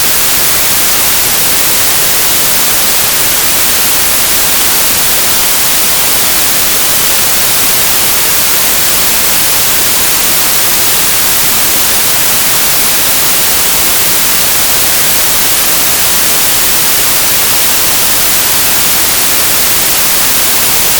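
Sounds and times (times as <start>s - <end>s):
static hiss: 0.0s - 20.9s.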